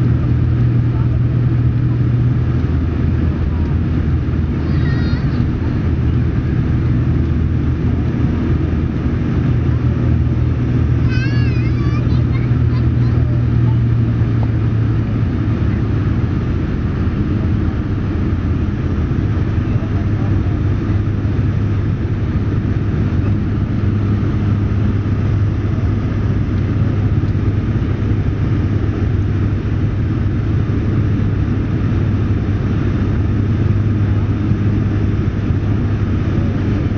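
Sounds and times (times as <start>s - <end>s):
turboprop cabin drone: 0.0s - 36.9s.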